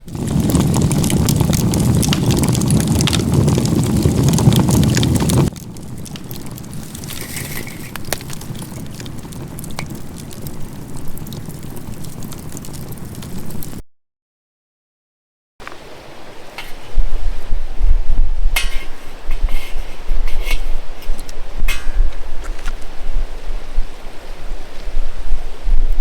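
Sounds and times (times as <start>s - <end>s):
fire crackling: 0.0s - 13.8s, 15.6s - 24.2s
wood fire rushing flame: 0.0s - 13.8s, 15.6s - 23.9s.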